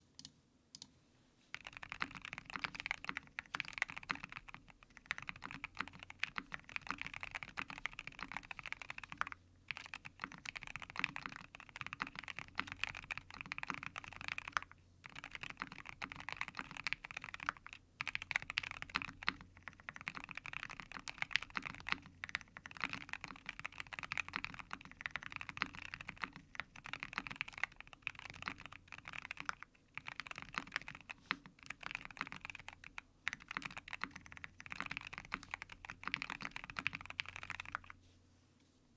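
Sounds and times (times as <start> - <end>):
mechanical keyboard typing: 1.5 - 37.9.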